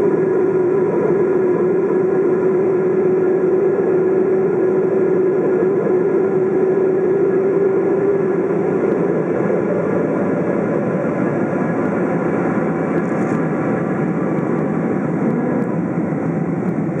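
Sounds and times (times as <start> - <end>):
jet engine and airflow in cabin: 0.0 - 17.0
steady hum: 0.0 - 17.0.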